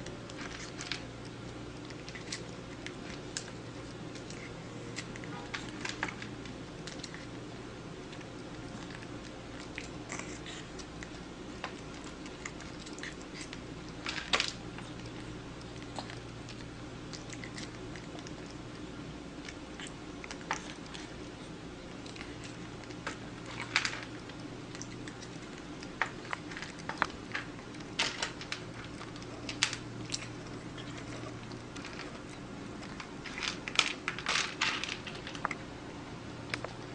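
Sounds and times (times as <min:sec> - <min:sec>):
cat chewing food: 0:00.0 - 0:36.9
steady low hum: 0:00.0 - 0:36.9.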